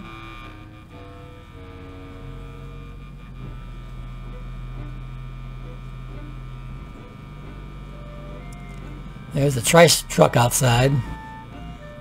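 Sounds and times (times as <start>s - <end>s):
low electrical hum from radio: 0.0s - 12.0s
truck droning outside: 0.0s - 12.0s.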